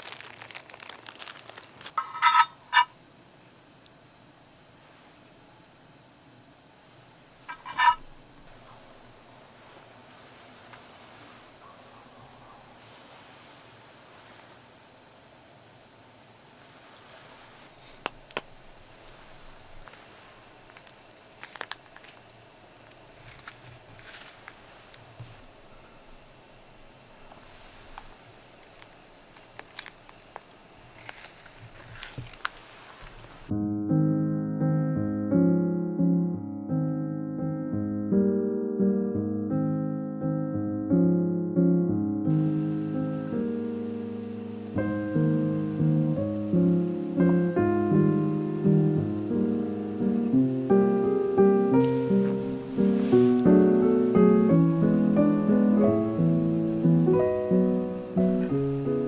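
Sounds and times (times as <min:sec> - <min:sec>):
insects trilling: 0:00.0 - 0:33.5, 0:42.3 - 0:59.0.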